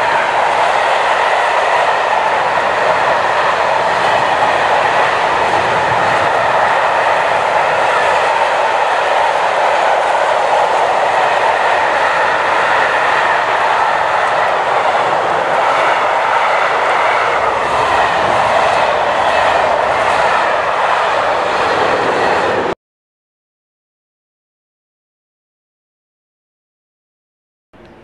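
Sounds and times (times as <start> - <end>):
train wheels rushing on rails: 0.0 - 22.8, 27.8 - 28.0.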